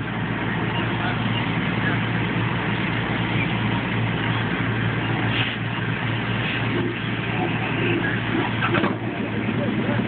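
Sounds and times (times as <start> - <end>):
fire engine running: 0.0 - 10.0
fire hose spraying water: 0.0 - 10.0.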